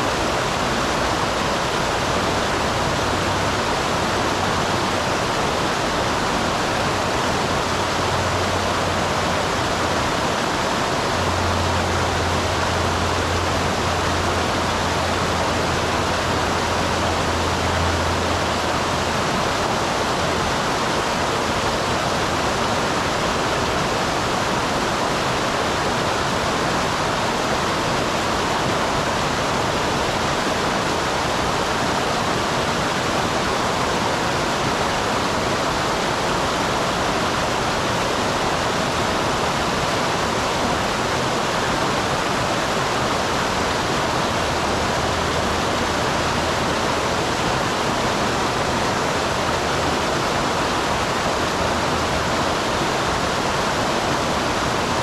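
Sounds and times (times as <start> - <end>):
small waterfall rushing: 0.0 - 55.0.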